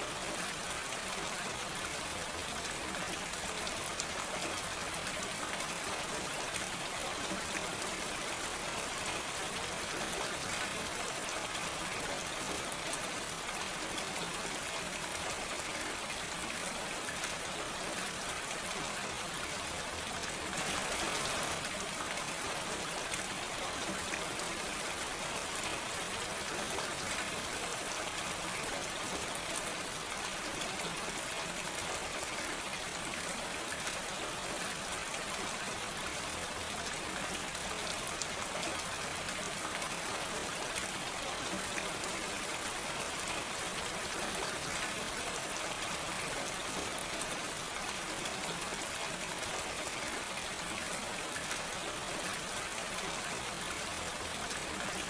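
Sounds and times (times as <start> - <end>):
gentle rain pattering: 0.0 - 55.0.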